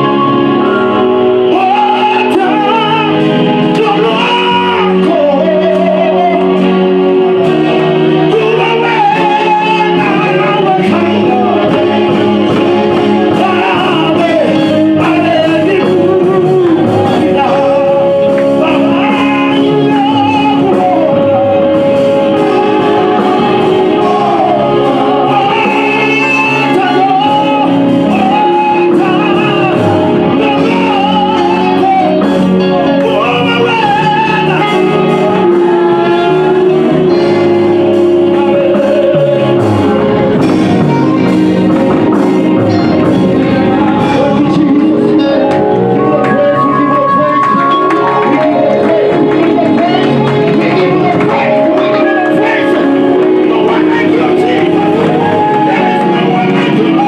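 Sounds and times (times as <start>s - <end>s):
backing singers in harmony: 0.0s - 57.0s
instrumental accompaniment: 0.0s - 57.0s
man singing into microphone: 0.0s - 57.0s.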